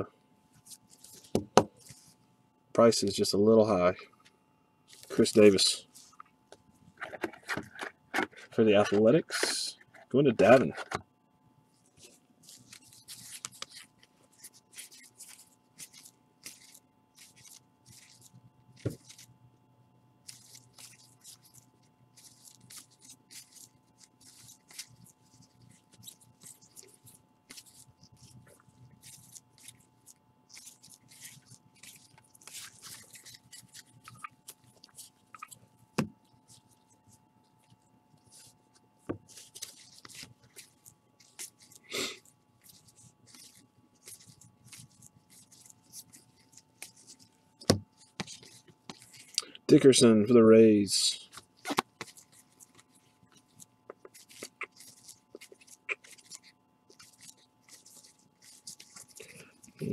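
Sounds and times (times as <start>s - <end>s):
trading cards shuffling: 0.6s - 2.2s, 6.9s - 11.0s, 11.9s - 19.3s, 20.2s - 50.1s, 50.9s - 59.9s.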